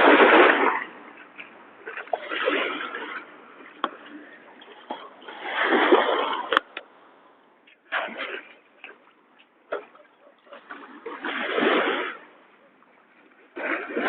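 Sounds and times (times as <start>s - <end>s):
waves washing onto shore: 0.0s - 14.0s.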